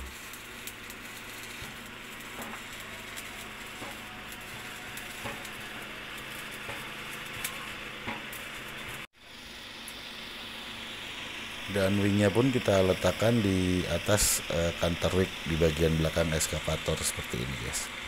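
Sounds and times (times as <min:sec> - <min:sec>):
arc welding crackling sizzle: 0:00.0 - 0:18.0.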